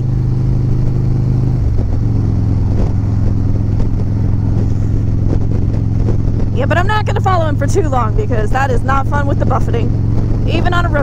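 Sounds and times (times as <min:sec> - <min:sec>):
motorcycle engine cruising: 0:00.0 - 0:11.0
wind rushing: 0:00.0 - 0:11.0.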